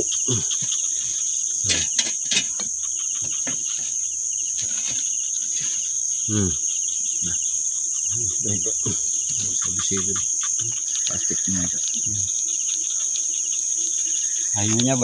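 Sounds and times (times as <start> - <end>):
insects ringing chorus: 0.0 - 15.0.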